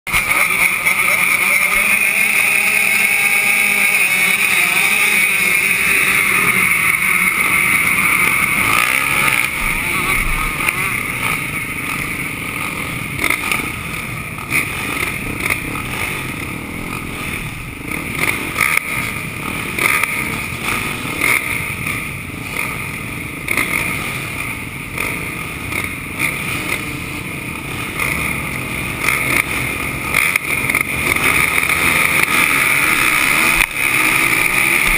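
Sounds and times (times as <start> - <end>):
motocross bike engines running: 0.1 - 34.9.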